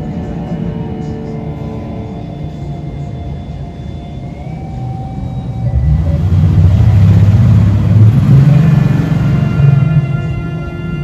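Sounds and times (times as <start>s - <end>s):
eerie background music: 0.0s - 11.0s.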